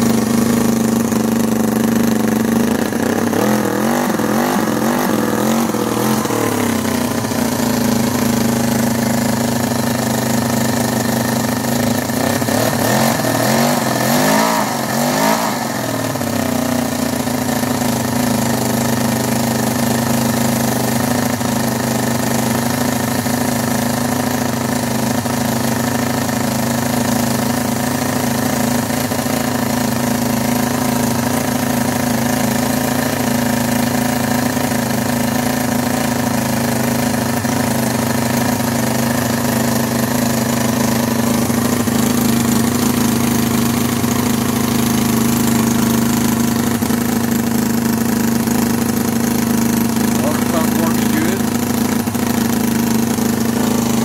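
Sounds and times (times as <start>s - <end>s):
model engine running: 0.0s - 54.0s.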